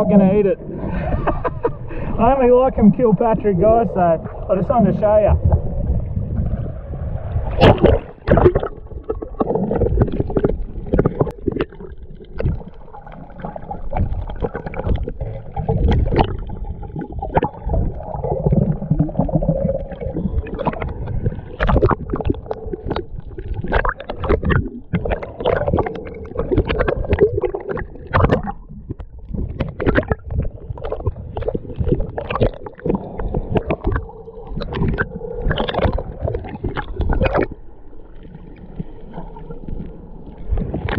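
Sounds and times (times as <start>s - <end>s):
water sloshing and gurgling: 0.0s - 40.9s.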